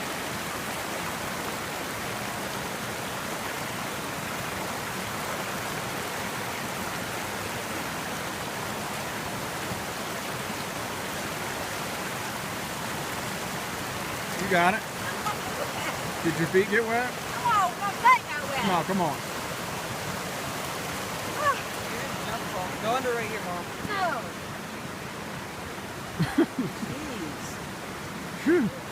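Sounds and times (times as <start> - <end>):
creek water rushing: 0.0 - 28.9.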